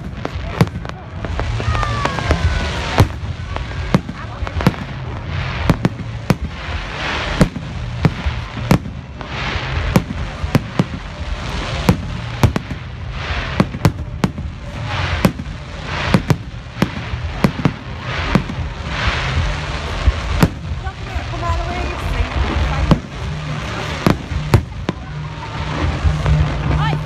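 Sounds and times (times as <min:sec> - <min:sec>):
firework bangs: 0:00.0 - 0:27.0
firework crackle: 0:00.0 - 0:27.0.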